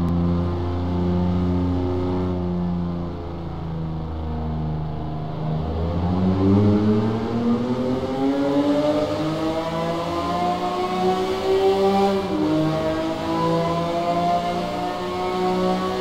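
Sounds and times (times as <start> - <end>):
car engine accelerating in tunnel: 0.0 - 16.0.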